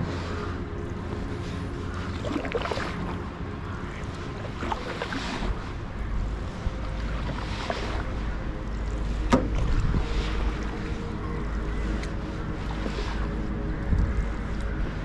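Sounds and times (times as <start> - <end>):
canoe paddle splashing: 0.0 - 15.0
wind rumble on microphone: 0.0 - 15.0.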